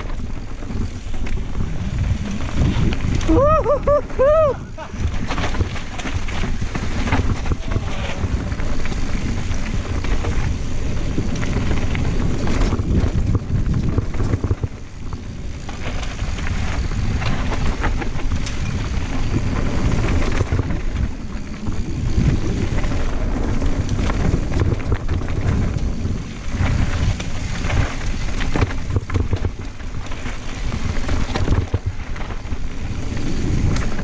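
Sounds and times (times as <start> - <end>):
bike knocking and rattling: 0.0 - 34.0
tyres rolling over dirt and rock: 0.0 - 34.0
wind rumbling on microphone: 0.0 - 34.0.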